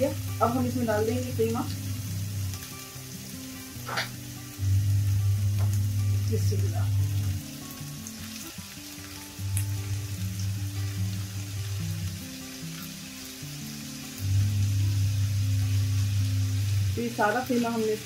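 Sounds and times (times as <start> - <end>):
background music with low notes: 0.0 - 18.0
food sizzling in hot oil: 0.0 - 18.0.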